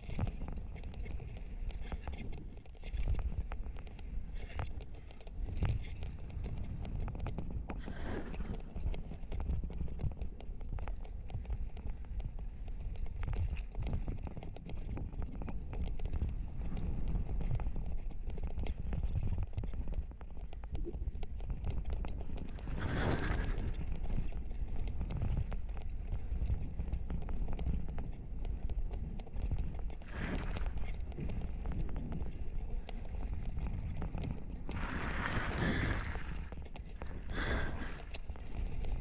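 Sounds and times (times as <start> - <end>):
wind and tyres rumbling: 0.0 - 39.0.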